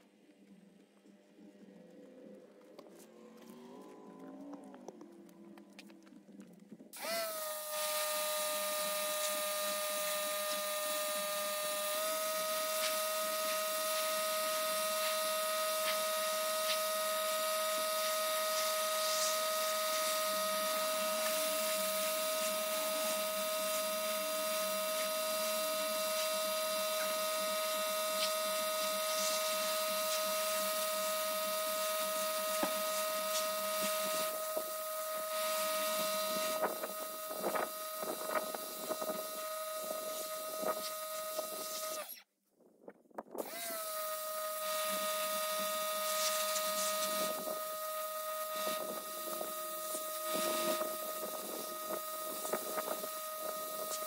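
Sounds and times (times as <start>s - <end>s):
electric motor whine: 7.0s - 42.2s, 43.4s - 54.0s.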